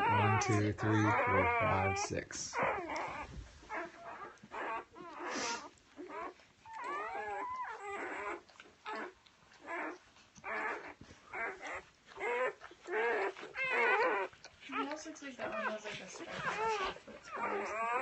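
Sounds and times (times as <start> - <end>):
puppies whimpering and squeaking: 0.0 - 18.0.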